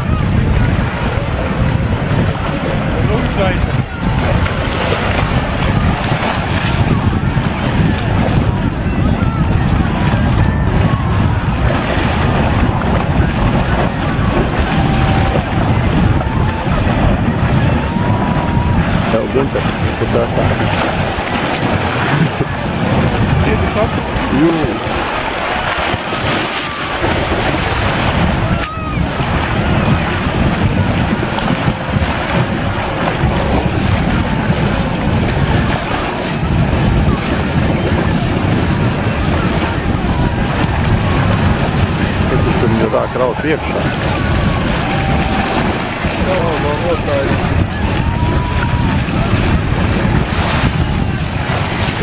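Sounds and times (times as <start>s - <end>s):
floodwater rushing down a whirlpool: 0.0s - 52.0s
wind buffeting the microphone: 0.0s - 52.0s.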